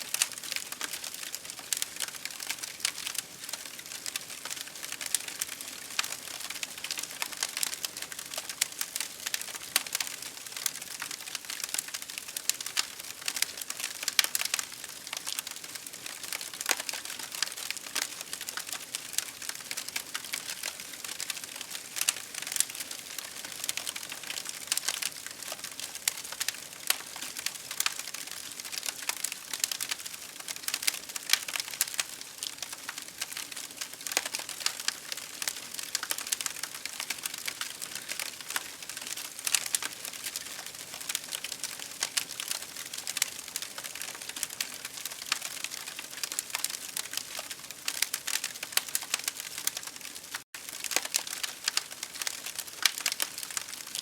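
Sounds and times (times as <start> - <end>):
campfire crackling: 0.1 - 54.0.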